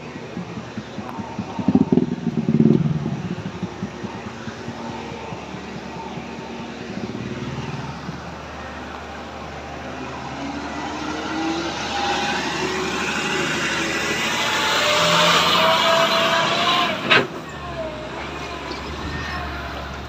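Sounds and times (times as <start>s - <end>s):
vehicle engine approaching: 0.0s - 20.0s.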